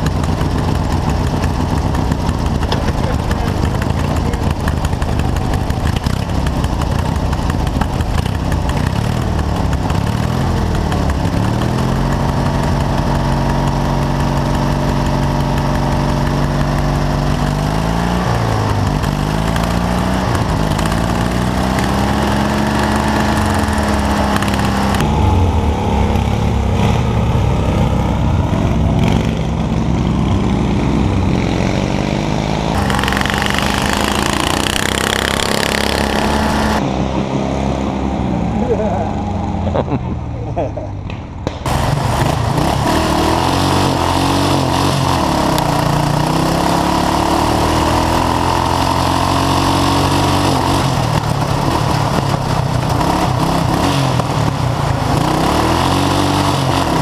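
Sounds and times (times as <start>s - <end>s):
lawn tractor engine revving: 0.0s - 39.9s, 41.4s - 57.0s.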